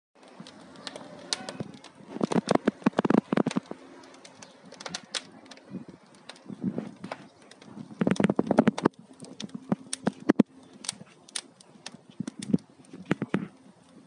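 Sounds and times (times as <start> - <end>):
wood fire crackling: 0.2 - 14.0.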